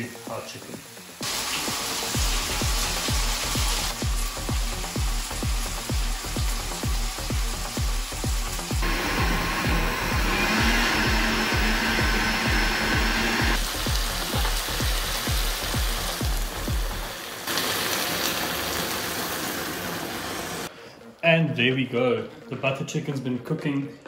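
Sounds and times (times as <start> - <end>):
background music with steady beat: 0.0 - 17.2, 20.7 - 24.0.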